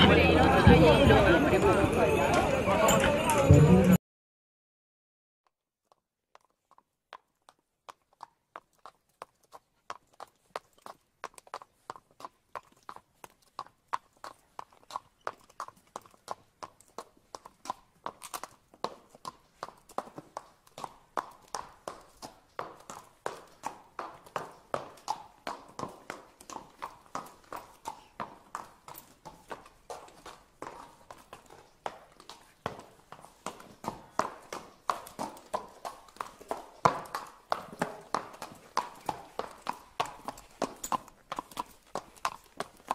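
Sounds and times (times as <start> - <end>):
horse hooves clip-clopping: 5.8 - 42.9.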